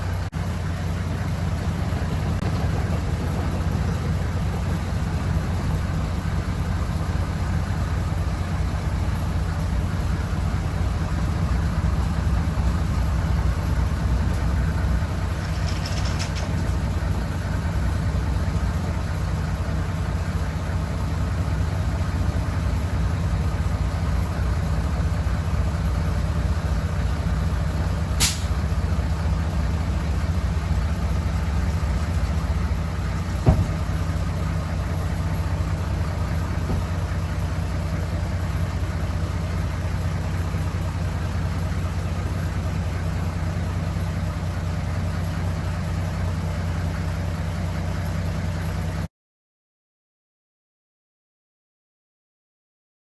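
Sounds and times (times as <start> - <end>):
truck engine running: 0.0 - 49.1.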